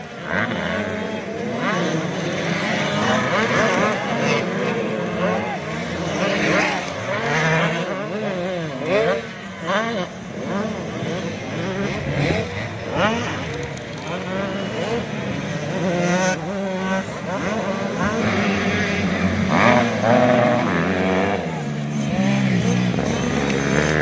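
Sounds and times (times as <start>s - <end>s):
two-stroke motocross bikes revving: 0.0s - 24.0s.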